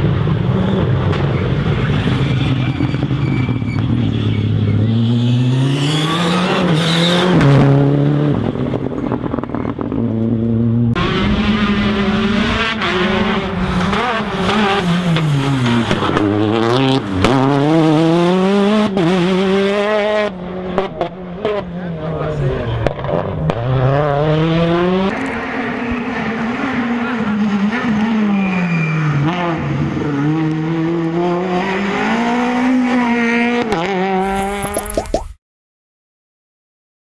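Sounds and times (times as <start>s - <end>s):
rally car engines revving: 0.0s - 34.8s.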